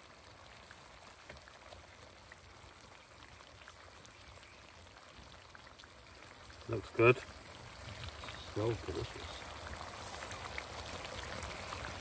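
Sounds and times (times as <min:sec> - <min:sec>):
faint sizzling in a pot: 0:00.0 - 0:12.0
small ticks and crackles: 0:00.0 - 0:12.0.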